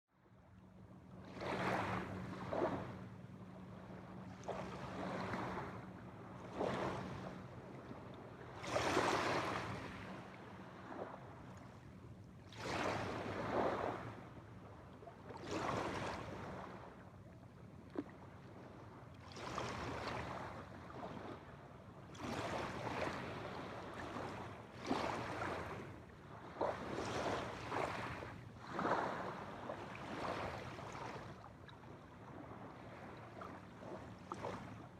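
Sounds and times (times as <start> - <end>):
small waves washing on shore: 1.2 - 17.2, 17.8 - 34.9.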